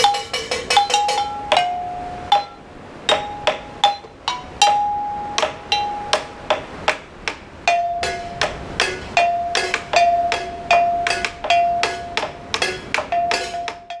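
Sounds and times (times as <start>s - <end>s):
rhythmic ringing metallic striking: 0.0s - 14.0s.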